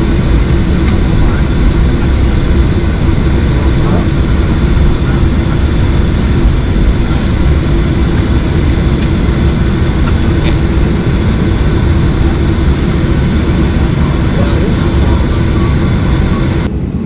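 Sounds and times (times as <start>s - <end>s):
jet engines deep rumble: 0.0s - 17.0s.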